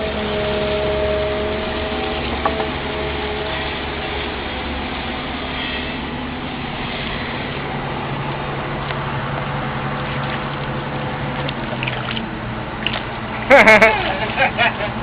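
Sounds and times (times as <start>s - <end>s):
boat engine idling: 0.0s - 15.0s
water rushing: 0.0s - 15.0s.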